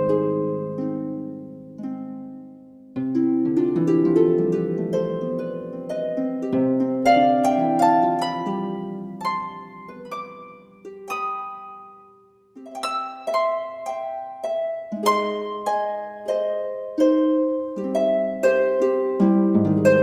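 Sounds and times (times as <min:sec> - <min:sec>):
plucked harp music: 0:00.0 - 0:20.0.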